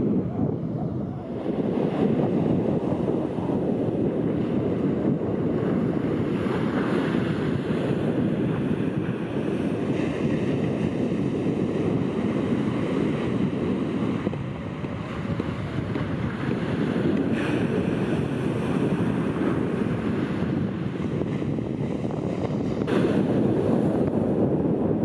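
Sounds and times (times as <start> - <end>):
surf waves breaking on beach: 0.0 - 25.0
wind noise on microphone: 0.0 - 25.0.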